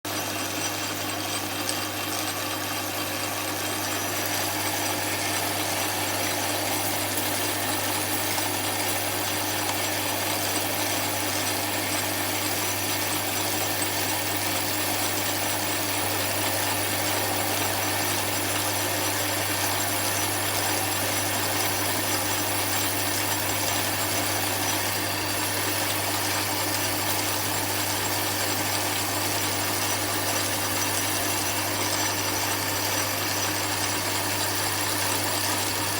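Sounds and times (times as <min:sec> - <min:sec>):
lathe motor hum and whir: 0:00.1 - 0:35.9.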